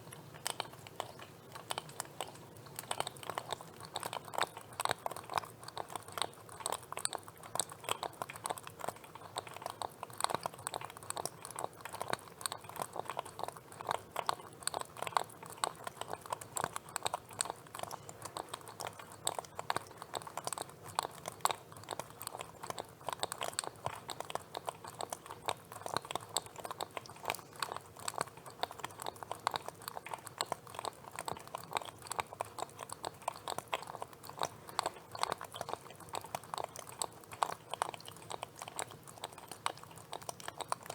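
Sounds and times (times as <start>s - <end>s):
lobster clicking and crackling: 0.0s - 40.9s.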